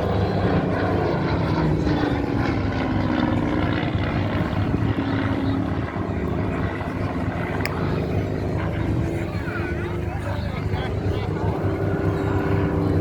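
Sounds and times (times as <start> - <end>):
propeller plane engine flying past: 0.0 - 13.0.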